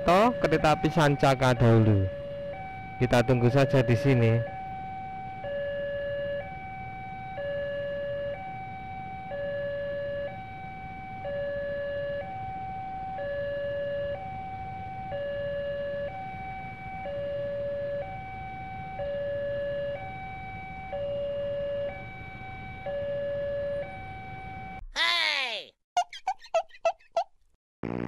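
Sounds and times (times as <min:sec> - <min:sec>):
two-tone crossing alarm: 0:00.0 - 0:24.8.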